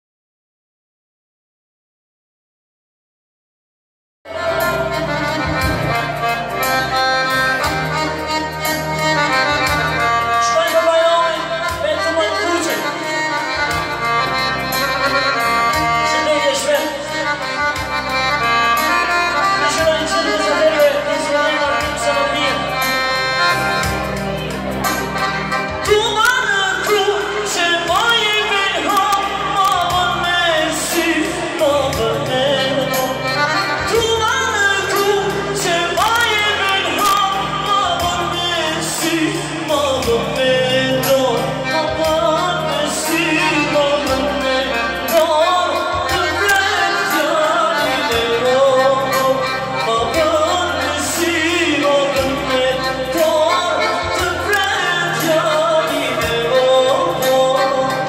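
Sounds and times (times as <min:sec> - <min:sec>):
man singing through pa system: 0:04.3 - 0:24.4, 0:25.2 - 0:58.0
keyboard backing with steady beat: 0:04.3 - 0:58.0.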